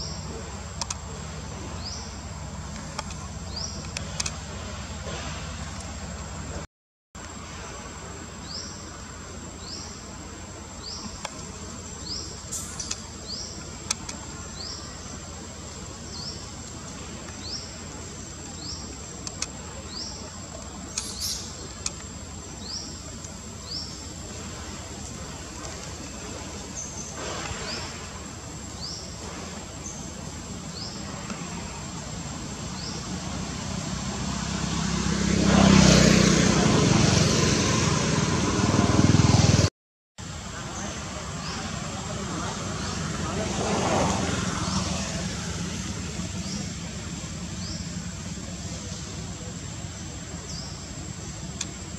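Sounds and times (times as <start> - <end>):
insects droning: 0.0 - 6.6, 7.2 - 39.6, 40.2 - 51.9
vehicle approaching: 0.0 - 6.7, 7.3 - 51.9.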